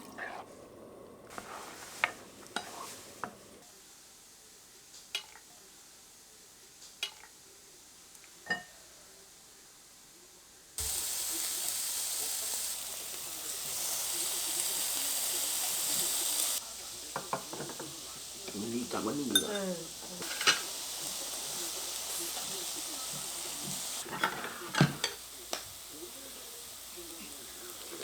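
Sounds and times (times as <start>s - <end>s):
food sizzling in hot fat: 0.0s - 28.0s.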